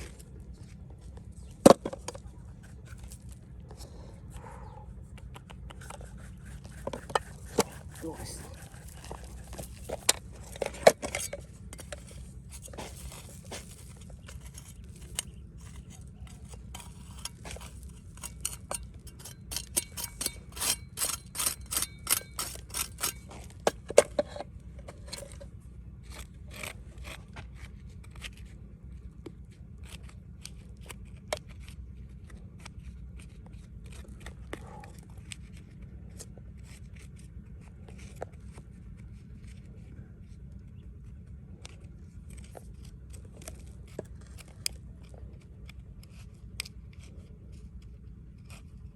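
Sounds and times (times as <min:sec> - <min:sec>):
digging in soil and stones: 0:00.0 - 0:48.9.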